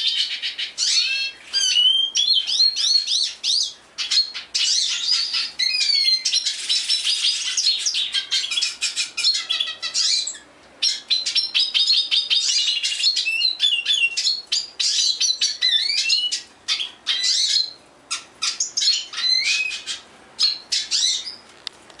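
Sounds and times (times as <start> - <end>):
songbirds singing: 0.0 - 21.6.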